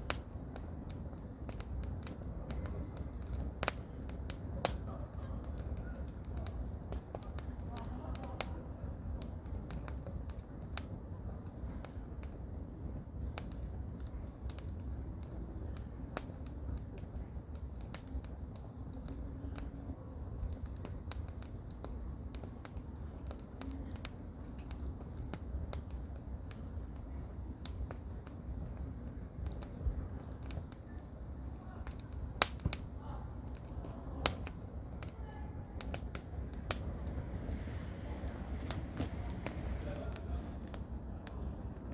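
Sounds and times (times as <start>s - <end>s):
firewood crackling and popping: 0.0s - 41.9s
low wind rumble: 0.0s - 41.9s.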